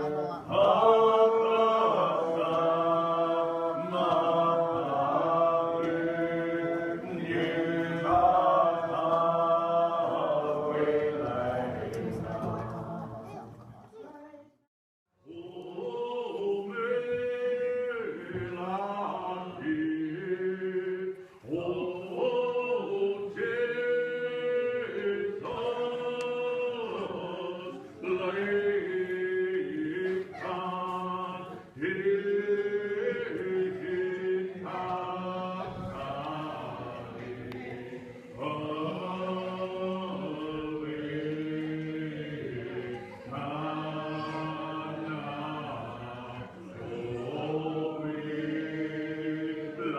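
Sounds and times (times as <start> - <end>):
congregation singing a hymn: 0.0 - 13.8, 15.2 - 49.9.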